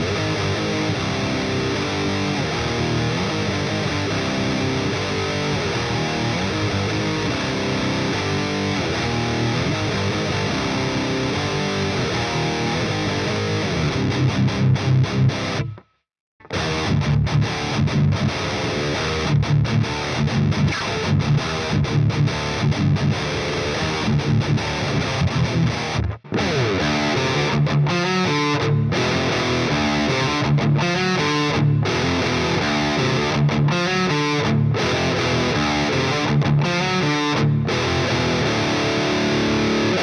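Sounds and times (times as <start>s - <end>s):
distorted electric guitar riffs: 0.0s - 40.0s.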